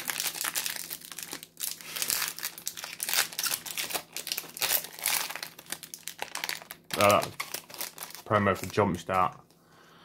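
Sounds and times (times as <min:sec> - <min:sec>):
plastic wrappers crinkling: 0:00.0 - 0:09.4.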